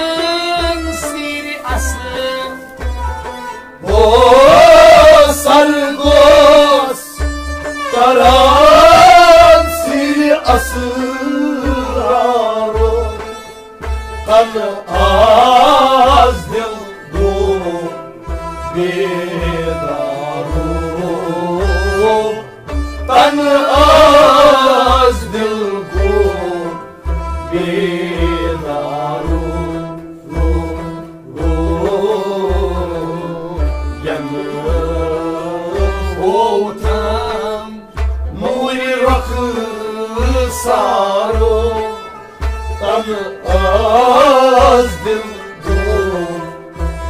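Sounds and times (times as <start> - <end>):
man singing: 0.0 - 13.6, 14.2 - 47.0
bowed sarangi: 0.0 - 47.0
harmonium: 0.0 - 47.0
low drum beat: 0.0 - 47.0.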